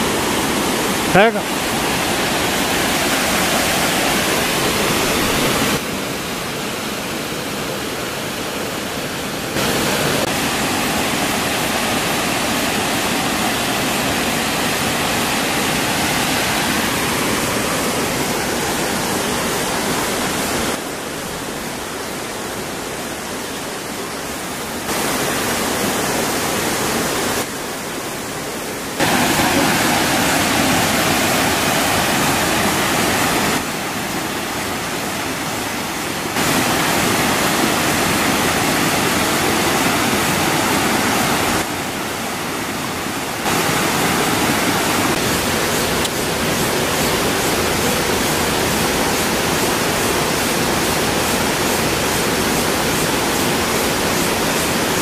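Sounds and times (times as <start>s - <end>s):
waterfall cascading over rocks: 0.0s - 55.0s.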